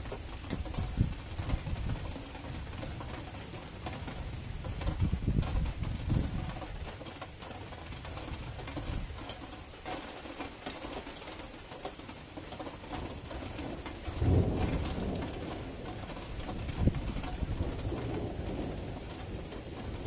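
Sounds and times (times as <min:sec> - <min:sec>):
low rumble of thunder: 0:00.0 - 0:09.3, 0:13.0 - 0:20.0
rain pattering: 0:00.0 - 0:20.0.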